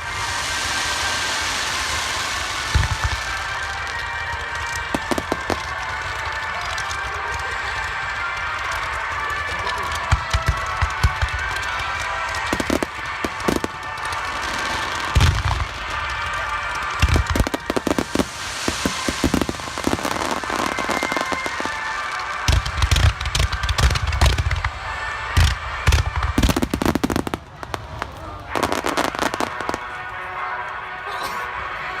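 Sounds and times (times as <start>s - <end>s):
fireworks booming: 0.0s - 7.5s, 9.6s - 29.9s
hissing shower of sparks: 0.0s - 27.3s
fireworks crackling: 0.0s - 31.0s.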